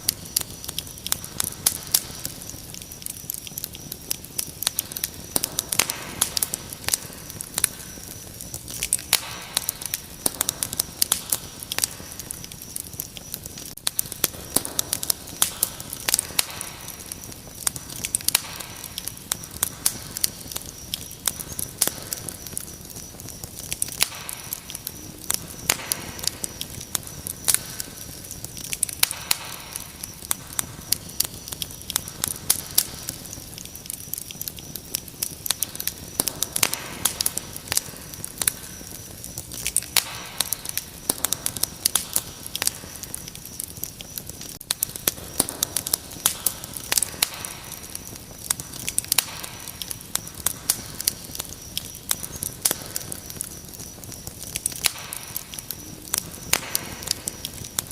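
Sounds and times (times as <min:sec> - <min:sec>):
crickets chirring: 0:00.0 - 0:57.9
wood fire crackling and popping: 0:00.0 - 0:57.9.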